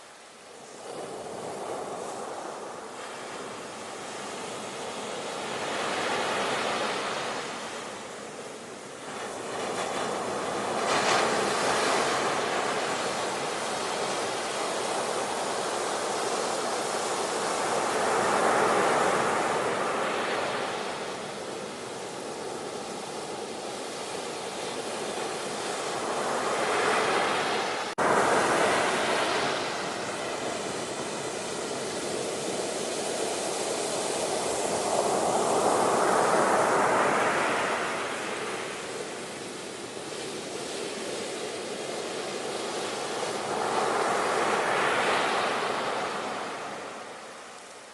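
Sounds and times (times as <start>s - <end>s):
ocean waves washing in: 0.0s - 47.9s.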